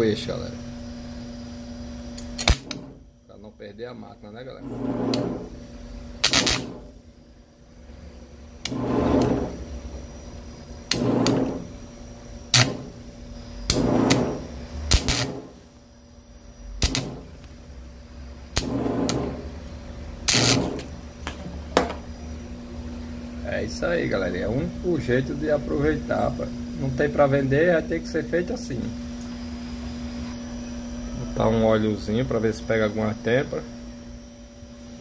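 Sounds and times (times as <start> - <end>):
electric welder buzzing: 0.0 - 3.3, 3.9 - 35.0.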